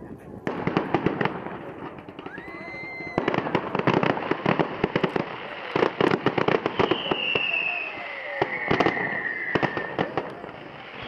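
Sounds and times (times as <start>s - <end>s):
firework bangs and crackles: 0.0s - 11.0s
firework whistle rising: 2.1s - 11.0s.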